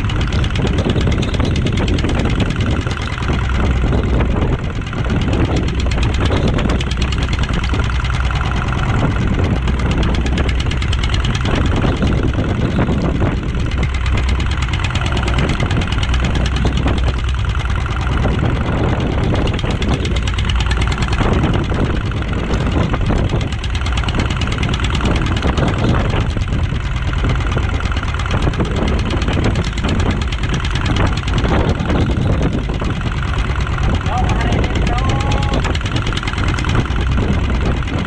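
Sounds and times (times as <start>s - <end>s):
boat engine knocking: 0.0s - 38.0s
wind: 0.0s - 38.0s.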